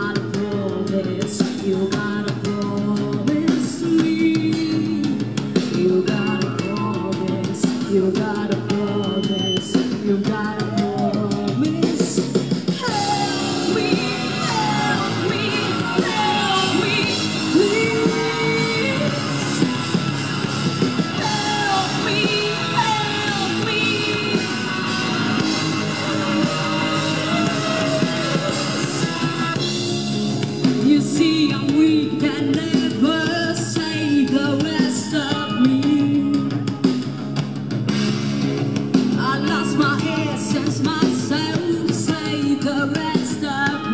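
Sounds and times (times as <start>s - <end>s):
person singing: 0.0s - 37.1s, 39.1s - 43.9s
drum kit: 0.0s - 43.9s
electric guitars: 0.0s - 43.9s.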